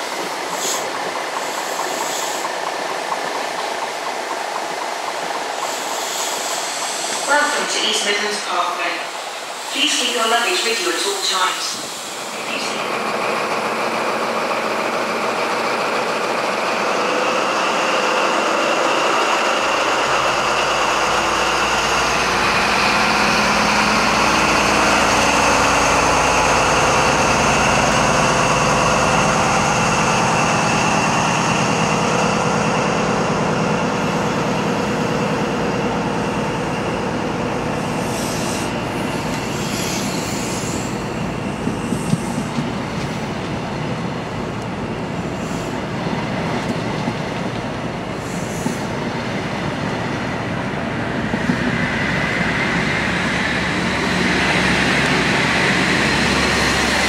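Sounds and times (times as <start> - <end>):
train coaches rumbling: 0.0 - 57.0.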